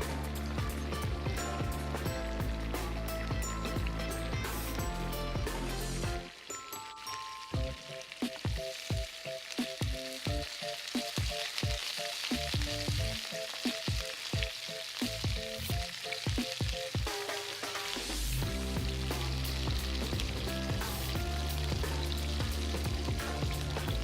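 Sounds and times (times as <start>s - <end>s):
background music with a beat: 0.0s - 24.0s
food sizzling in a pan: 0.0s - 24.0s.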